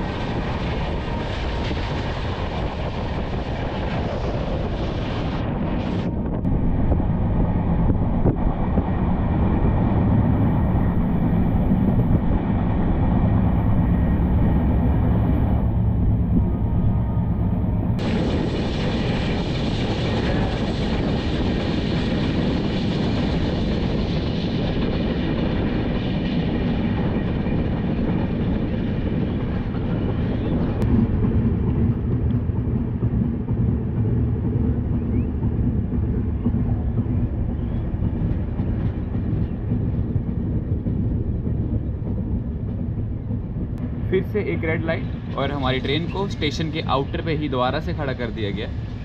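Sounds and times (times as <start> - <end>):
rushing wind: 0.0 - 49.0
train wheels rumbling on rails: 0.0 - 49.0.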